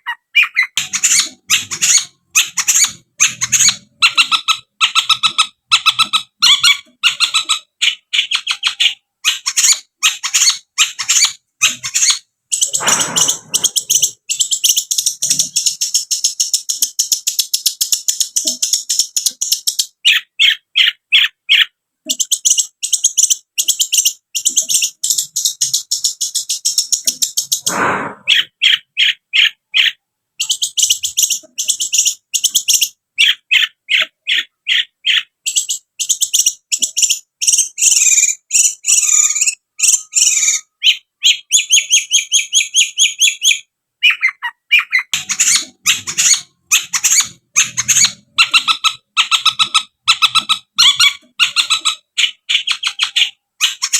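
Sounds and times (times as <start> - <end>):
bird chattering song: 0.0 - 53.9
harsh rasping bird calls: 0.0 - 53.9.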